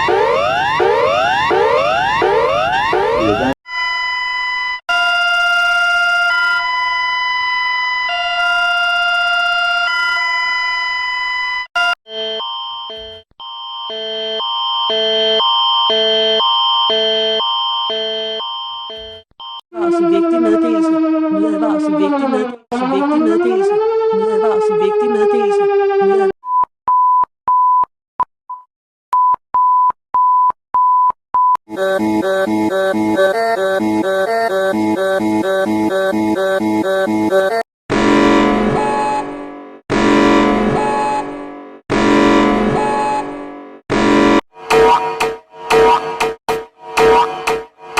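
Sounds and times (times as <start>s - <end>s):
two-tone electronic alarm: 0.0s - 25.9s, 31.7s - 47.9s.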